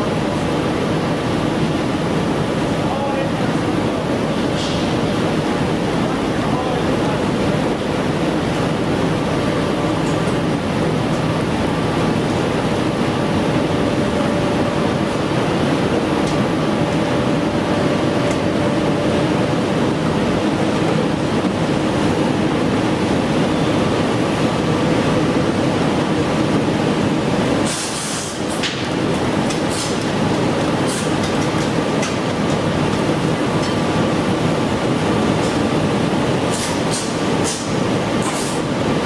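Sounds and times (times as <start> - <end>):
heavy machinery noise: 0.0 - 39.0.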